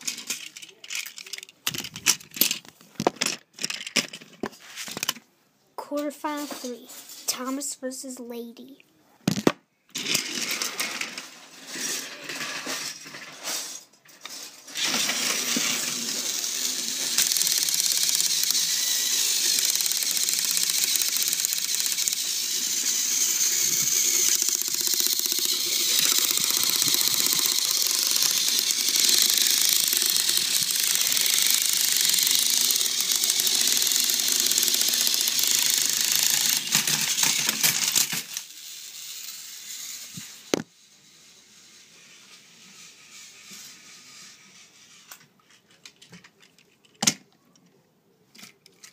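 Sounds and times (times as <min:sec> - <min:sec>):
toy train motors whirring: 0:00.0 - 0:02.7, 0:09.9 - 0:46.5.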